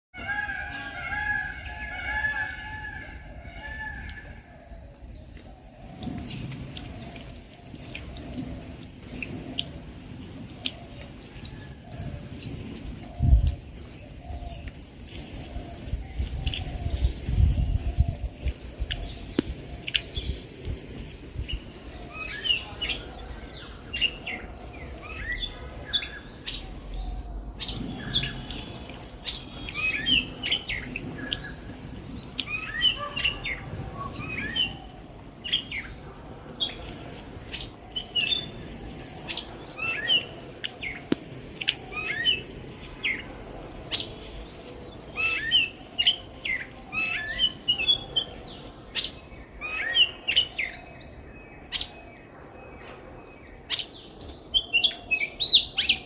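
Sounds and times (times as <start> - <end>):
songbirds chirping and singing: 0.2 - 56.0.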